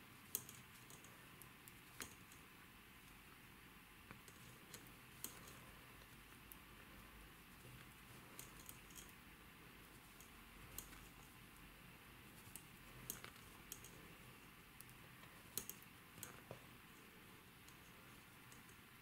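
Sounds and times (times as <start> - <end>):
room hiss: 0.0 - 19.0
knitting needles clicking: 0.2 - 3.2, 4.0 - 9.2, 9.9 - 19.0.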